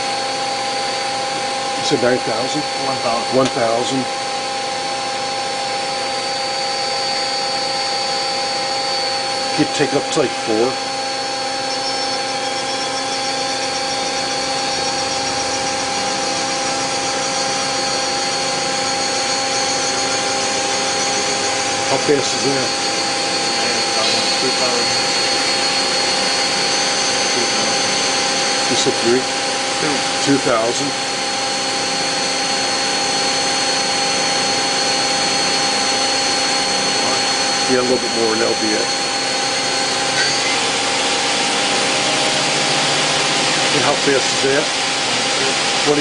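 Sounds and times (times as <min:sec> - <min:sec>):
lathe spindle whine: 0:00.0 - 0:46.0.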